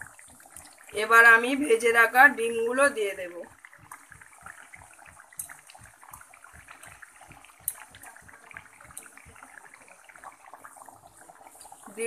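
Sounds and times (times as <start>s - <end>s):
curry bubbling and popping: 0.0s - 12.0s.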